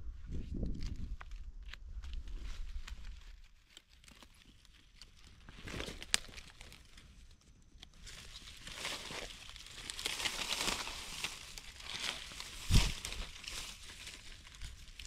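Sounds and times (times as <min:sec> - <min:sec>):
twigs snapping: 0:00.7 - 0:07.1, 0:07.8 - 0:15.0
dry leaves rustling and crackling: 0:02.1 - 0:15.0.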